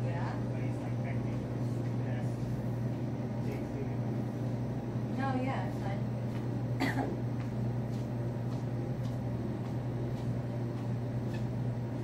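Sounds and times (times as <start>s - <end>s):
low hum of refrigeration: 0.0s - 12.0s.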